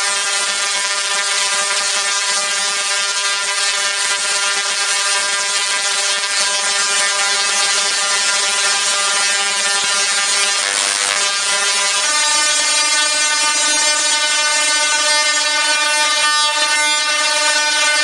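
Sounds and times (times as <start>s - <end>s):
tesla coil sparks buzzing crackle: 0.0s - 18.0s.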